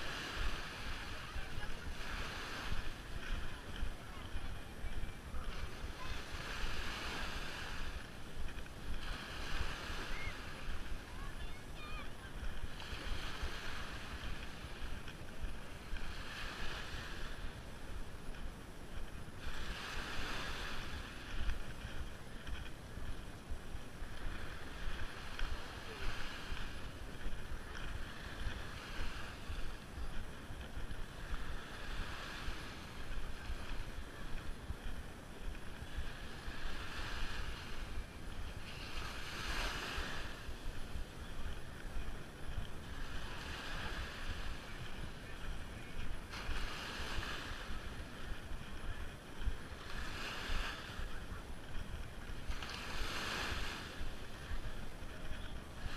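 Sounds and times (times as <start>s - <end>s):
small waves breaking on beach: 0.0s - 55.9s
wind on microphone: 0.0s - 55.9s.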